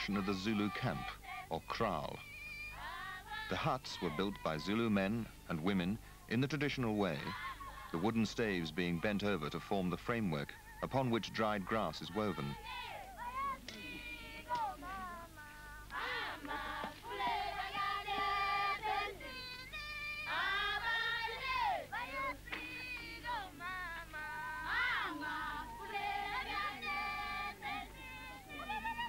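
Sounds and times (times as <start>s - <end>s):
high voices singing together: 0.0s - 9.5s, 10.1s - 29.0s.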